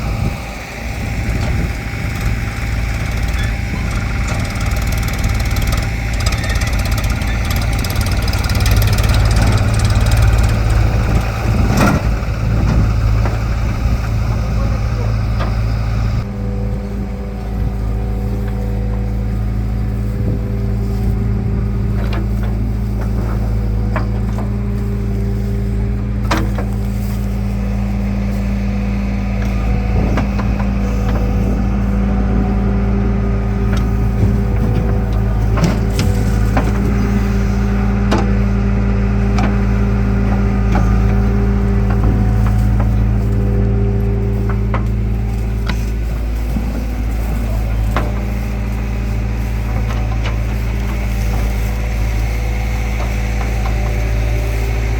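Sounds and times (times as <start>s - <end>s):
diesel machinery running: 0.0s - 54.9s.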